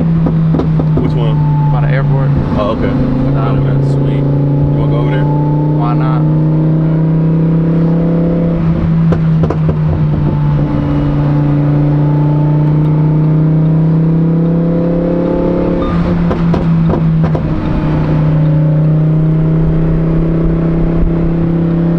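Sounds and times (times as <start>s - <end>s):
sports car engine running low: 0.0s - 21.9s.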